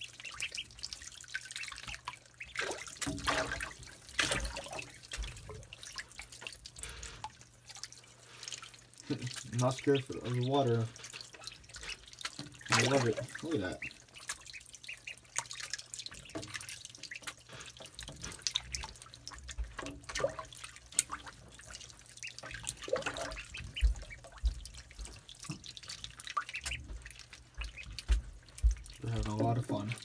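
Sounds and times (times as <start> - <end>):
ducklings splashing in water: 0.0 - 30.0.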